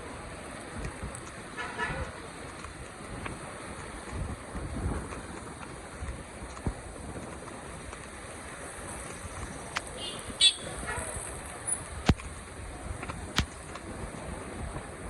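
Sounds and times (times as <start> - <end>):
traffic: 0.0 - 15.0.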